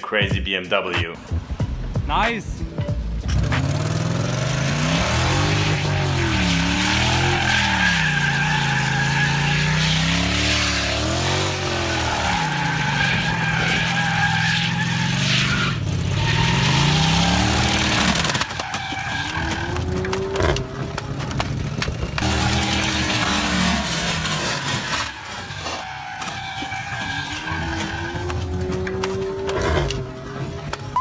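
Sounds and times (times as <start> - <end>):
car engine revving: 3.0 - 31.0
tires squealing: 3.3 - 31.0.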